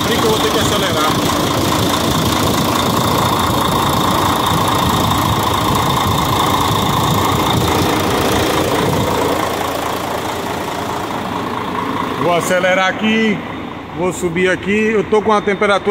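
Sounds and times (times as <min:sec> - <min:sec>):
diesel truck engine idling: 0:00.0 - 0:15.9.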